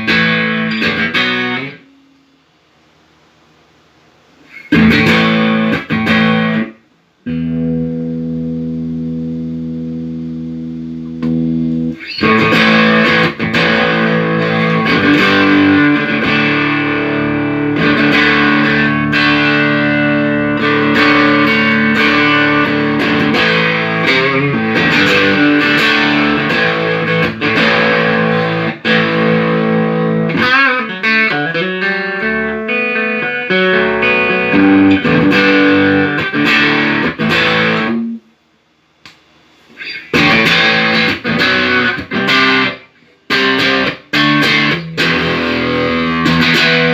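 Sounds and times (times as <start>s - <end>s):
distorted electric guitar: 0.0s - 2.2s, 4.5s - 38.3s, 39.7s - 46.9s.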